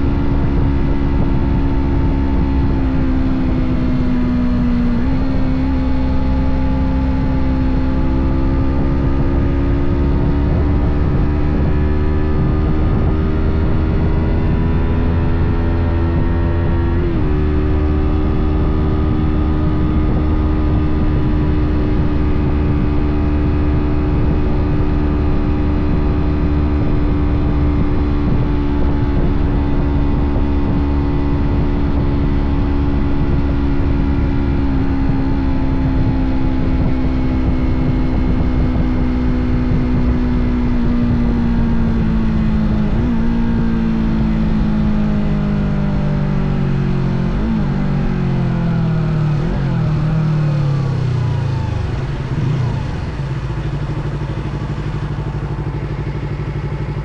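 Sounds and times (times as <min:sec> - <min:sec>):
motorcycle engine at high revs: 0:00.0 - 0:57.0
wind rumble on microphone: 0:00.0 - 0:57.0.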